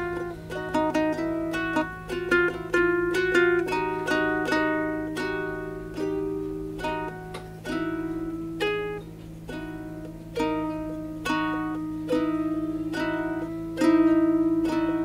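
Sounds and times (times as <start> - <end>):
ukulele strummed chords: 0.0 - 15.0.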